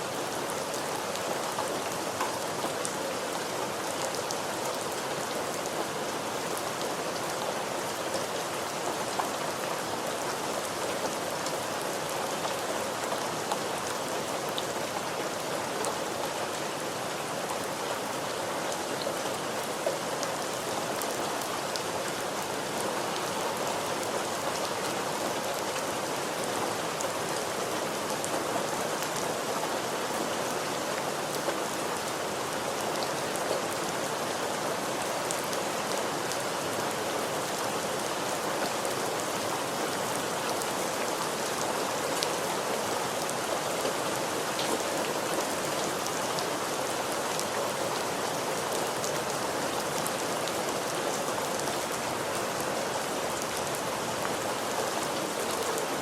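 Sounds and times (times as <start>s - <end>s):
rain drops ticking on surface: 0.1s - 56.0s.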